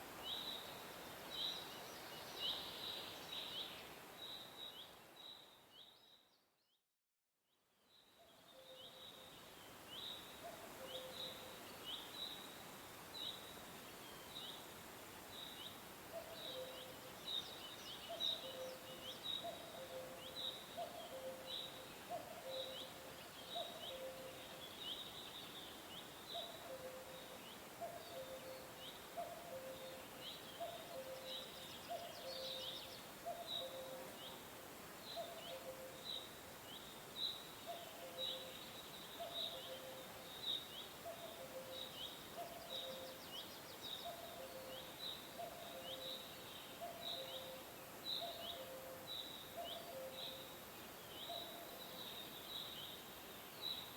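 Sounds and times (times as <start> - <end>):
steady background hiss: 0.0 - 6.0, 7.8 - 53.9.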